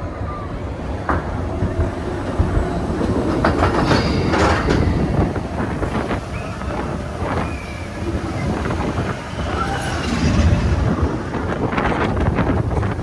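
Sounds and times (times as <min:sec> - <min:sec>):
roller coaster rumbling on track: 0:00.0 - 0:13.0
wheels clacking: 0:01.0 - 0:13.0.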